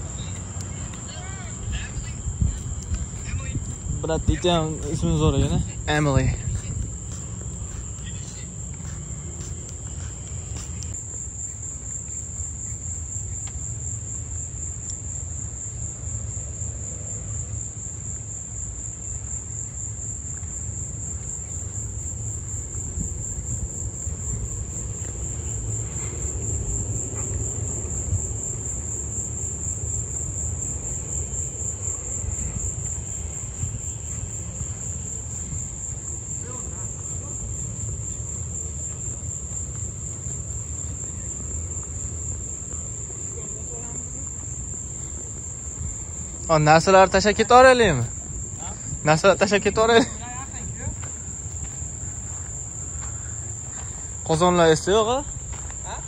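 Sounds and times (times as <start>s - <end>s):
insects droning in chorus: 0.0s - 56.0s.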